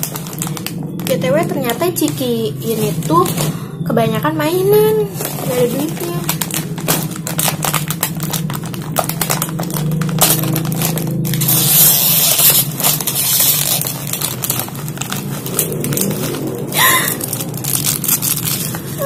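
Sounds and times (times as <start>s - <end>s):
plastic bag ripping open: 0.0s - 3.5s, 5.0s - 19.0s
plastic bag crinkling: 0.0s - 3.6s, 4.5s - 19.0s.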